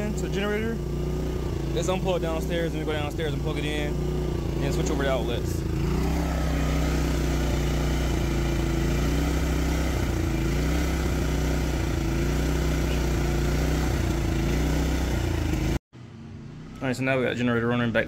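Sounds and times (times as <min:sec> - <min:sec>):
generator engine running: 0:00.0 - 0:15.8.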